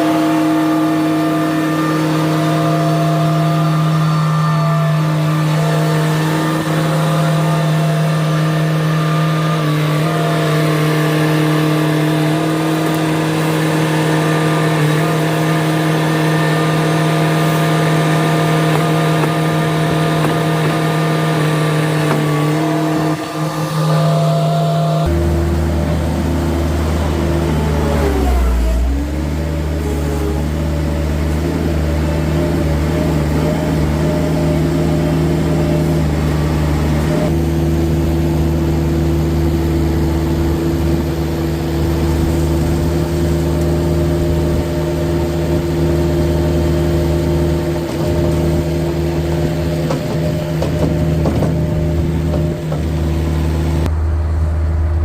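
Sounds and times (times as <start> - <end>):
vehicle engine humming: 0.0 - 55.0.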